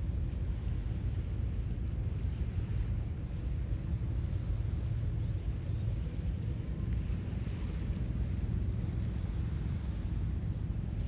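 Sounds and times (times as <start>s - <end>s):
sea waves washing in: 0.0s - 11.0s
wind rumble on microphone: 0.0s - 11.0s.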